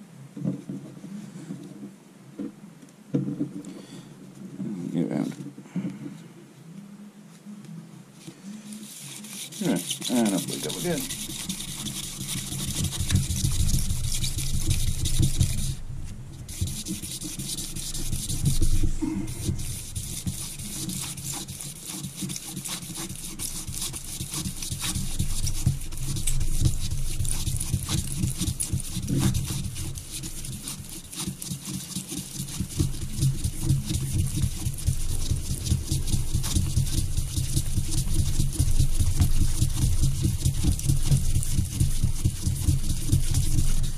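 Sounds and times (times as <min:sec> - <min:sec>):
abrasive paper rasping on steel: 0:08.7 - 0:43.9.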